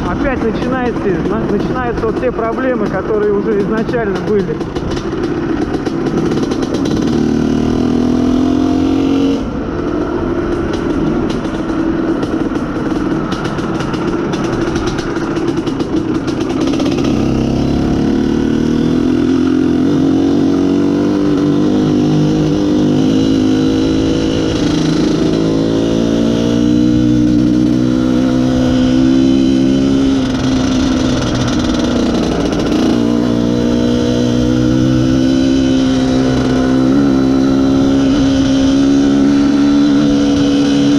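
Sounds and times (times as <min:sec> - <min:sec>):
two-stroke motorcycle engine revving: 0:00.0 - 0:40.9.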